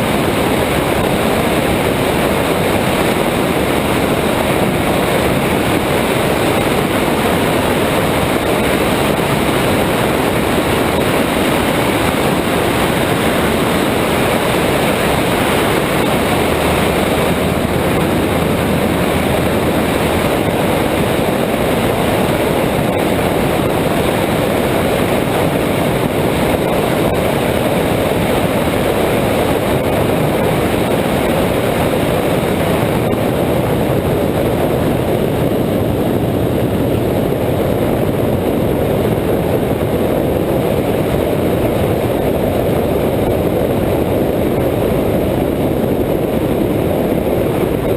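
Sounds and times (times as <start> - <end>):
propeller plane engine running: 0.0 - 47.9
wind noise: 0.0 - 47.9.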